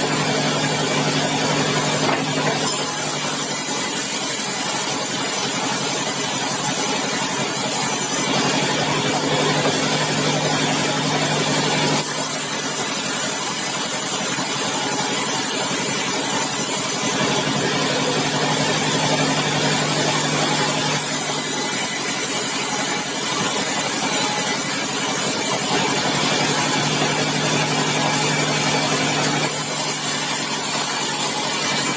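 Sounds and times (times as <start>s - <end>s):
sawmill machinery din: 0.0s - 31.9s.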